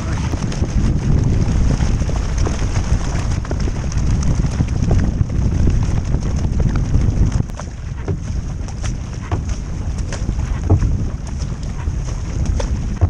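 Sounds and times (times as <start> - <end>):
paddle splashes and drips: 0.0 - 13.0
water rushing past hull: 0.0 - 13.0
wind buffeting microphone: 0.0 - 13.0.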